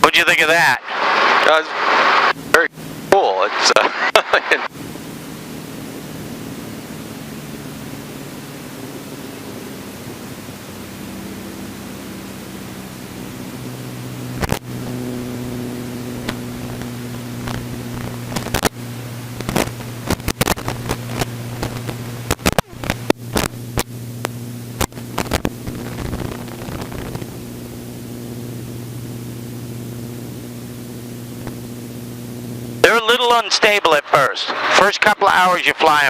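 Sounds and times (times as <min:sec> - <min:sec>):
helicopter engine hum: 0:00.8 - 0:33.0.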